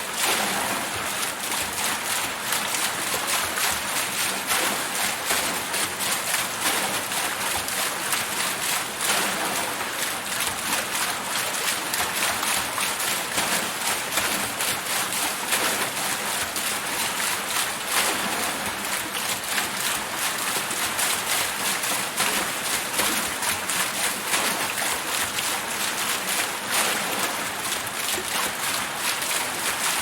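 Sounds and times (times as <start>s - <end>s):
water wheel paddles splashing: 0.0s - 30.0s.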